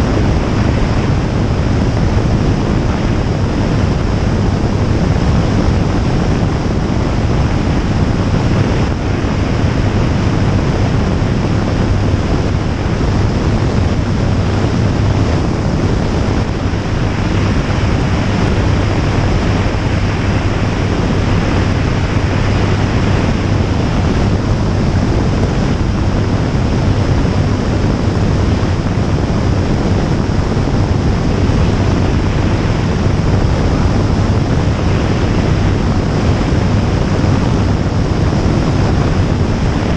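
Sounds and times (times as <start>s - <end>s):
aircraft engine humming: 0.0s - 39.9s
wind noise on microphone: 0.0s - 39.9s.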